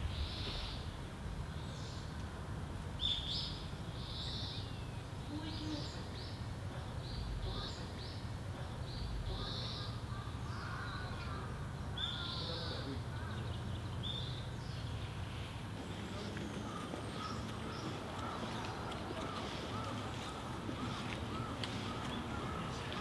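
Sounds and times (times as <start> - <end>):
low steady background rumble: 0.0 - 23.0.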